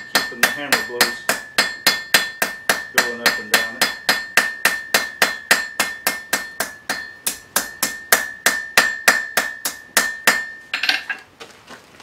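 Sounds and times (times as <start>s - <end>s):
hammer striking iron on anvil: 0.0s - 11.2s.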